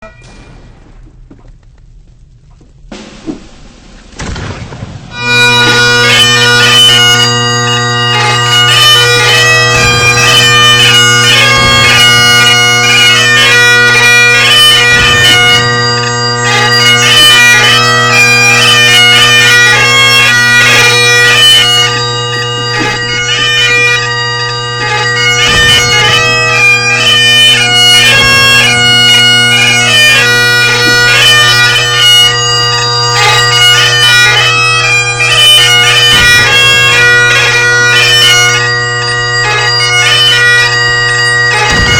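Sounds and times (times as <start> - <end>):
bagpipes playing: 5.1 - 41.9.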